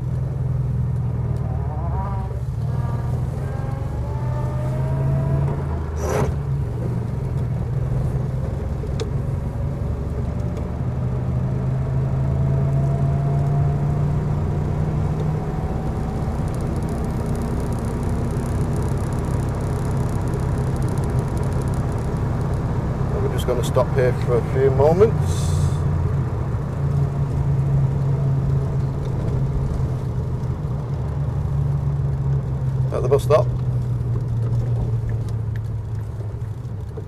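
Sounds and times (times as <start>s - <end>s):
car engine low hum: 0.0s - 37.0s.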